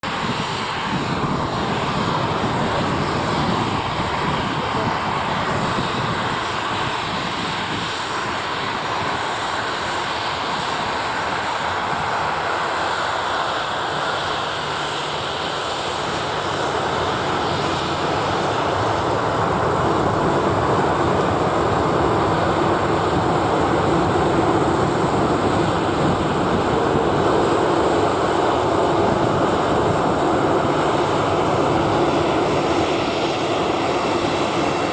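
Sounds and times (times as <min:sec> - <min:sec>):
jet engines running: 0:00.0 - 0:34.9.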